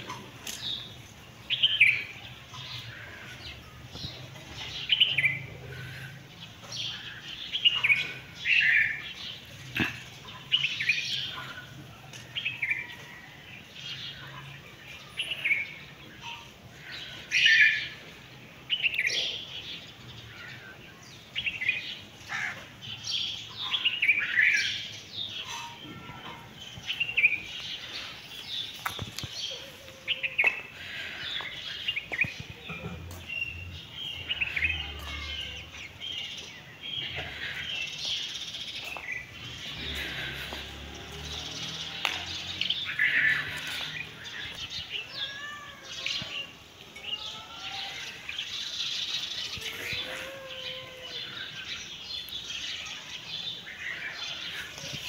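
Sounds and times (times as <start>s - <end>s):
small birds chirping and calling: 0.0s - 55.0s.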